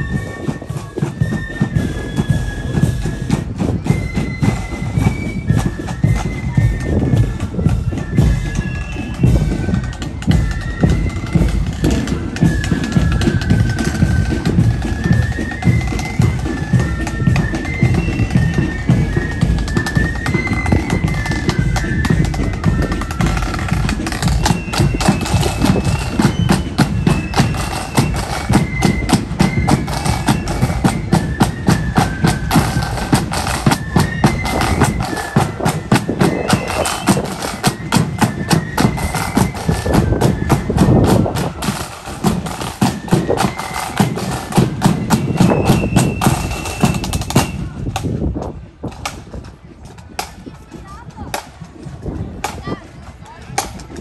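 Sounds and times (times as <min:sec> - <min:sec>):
flutes playing high melody: 0:00.0 - 0:48.0
snare drums: 0:00.0 - 0:54.0.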